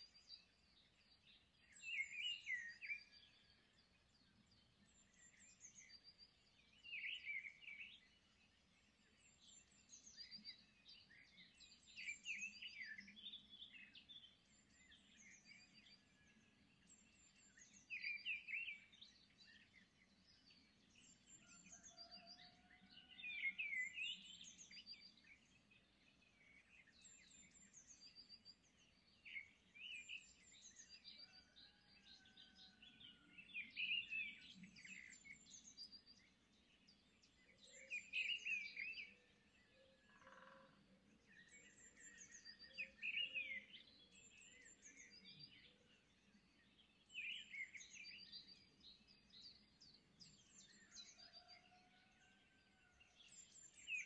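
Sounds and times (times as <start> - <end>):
faint birds chirping and singing: 0.0 - 54.0.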